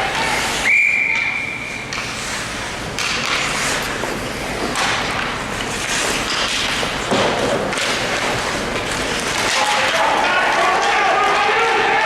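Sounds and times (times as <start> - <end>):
skates scraping ice: 0.0 - 0.7, 1.6 - 12.0.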